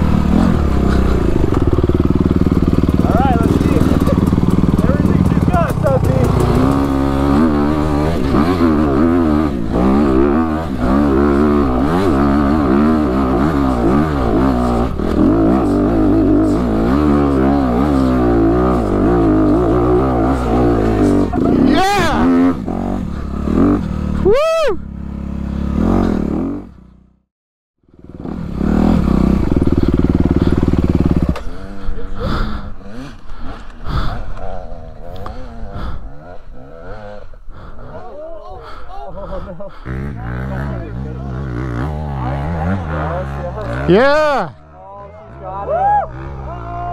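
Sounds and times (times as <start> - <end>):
dirt bike engine revving: 0.0 - 27.2, 27.9 - 38.1, 39.2 - 46.9
uneven engines of other bikes: 0.0 - 46.9.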